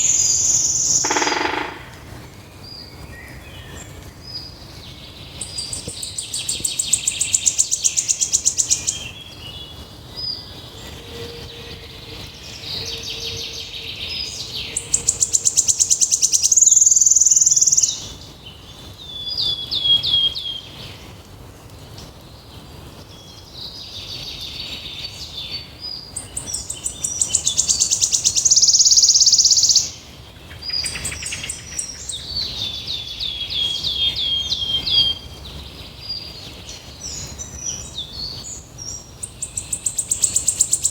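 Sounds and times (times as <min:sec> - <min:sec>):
songbird singing trills: 0:00.0 - 0:40.9.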